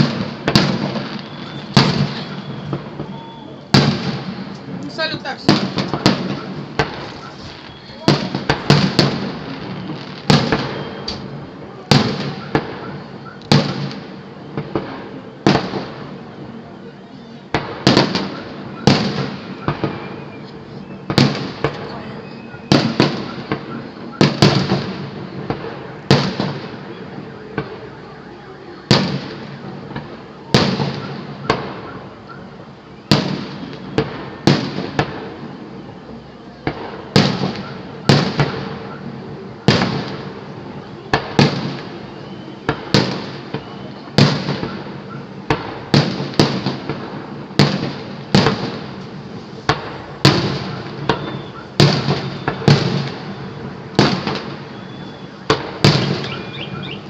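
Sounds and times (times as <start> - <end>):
fireworks bursting: 0.0 - 57.0
fireworks crackle: 0.0 - 57.0.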